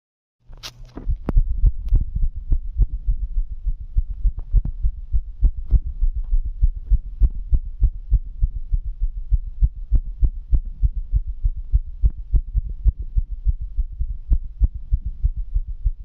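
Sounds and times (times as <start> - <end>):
fast heartbeat thumps: 0.9 - 16.0.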